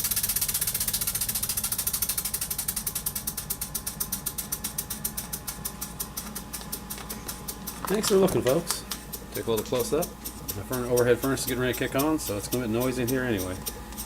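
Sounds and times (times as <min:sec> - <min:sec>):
model steam engine exhaust beats: 0:00.0 - 0:14.0.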